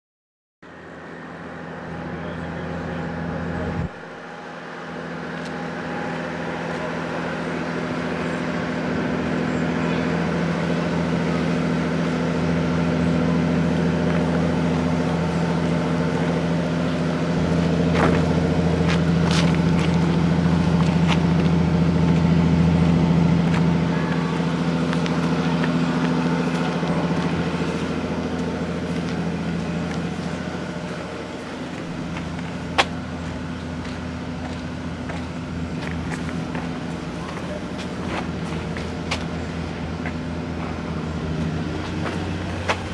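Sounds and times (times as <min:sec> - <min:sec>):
diesel engine idling: 0:00.6 - 0:42.9.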